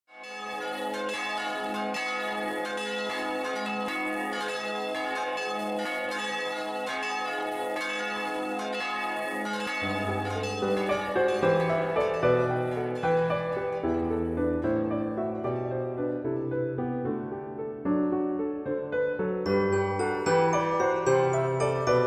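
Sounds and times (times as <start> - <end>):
church bells pealing: 0.1 - 16.0, 19.5 - 22.0
piano music: 0.5 - 22.0.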